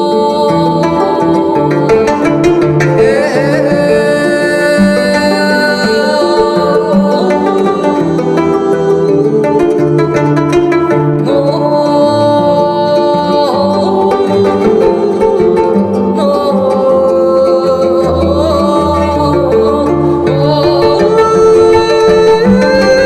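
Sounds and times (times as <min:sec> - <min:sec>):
bowed string melody: 0:00.0 - 0:23.0
plucked zither strings: 0:00.0 - 0:23.0.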